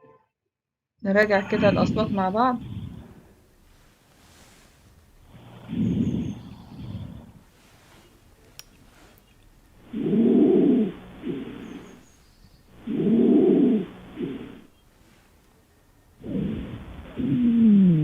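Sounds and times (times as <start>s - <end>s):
lung breath sounds through stethoscope: 1.3s - 15.5s, 16.2s - 18.0s.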